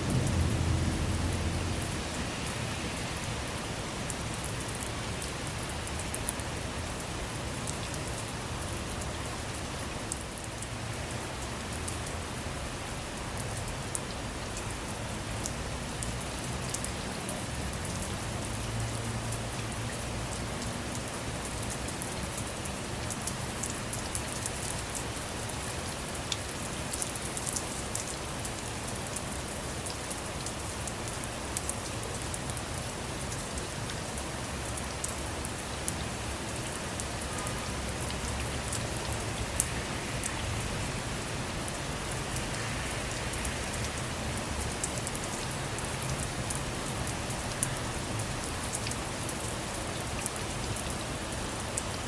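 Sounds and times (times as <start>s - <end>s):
rain on a car: 0.0s - 52.0s.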